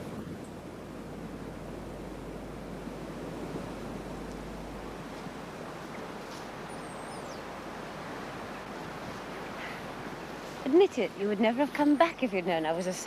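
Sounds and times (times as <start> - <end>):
rushing outdoor ambience: 0.0 - 13.0.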